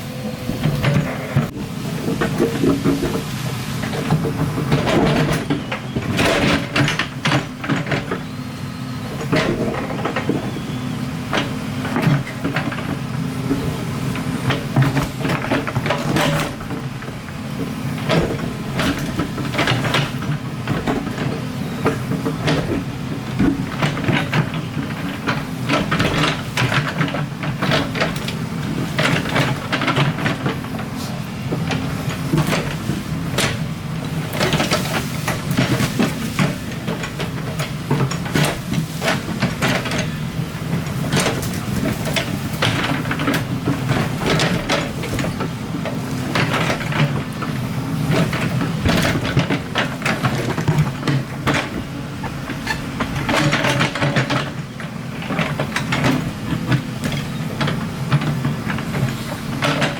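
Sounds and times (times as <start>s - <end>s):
excavator diesel engine running: 0.0s - 59.9s
bucket clanking and scraping rock: 0.5s - 8.3s, 9.2s - 10.7s, 11.3s - 59.9s.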